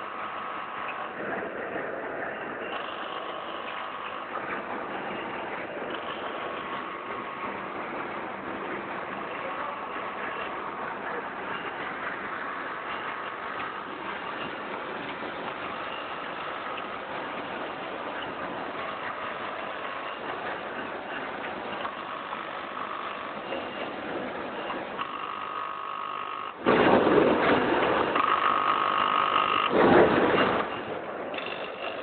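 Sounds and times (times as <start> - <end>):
packing machine hissing: 0.0 - 25.9
motor whine: 0.0 - 32.0.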